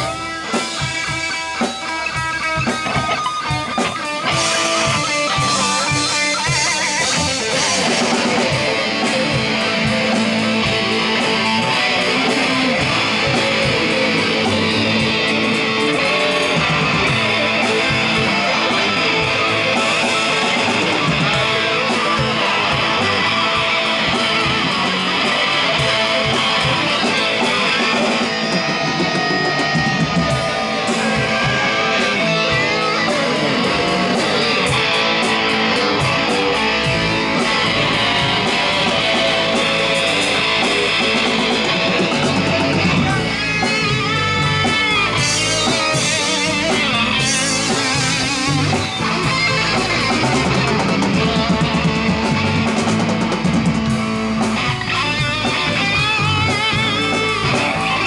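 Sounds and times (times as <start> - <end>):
bass: 0.0 - 58.0
drums: 0.0 - 58.0
electric guitar: 0.0 - 58.0.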